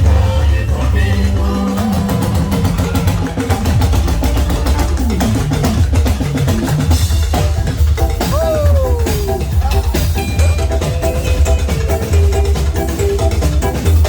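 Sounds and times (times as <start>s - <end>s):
drum kit: 0.0s - 14.0s
loud band music: 0.0s - 14.0s.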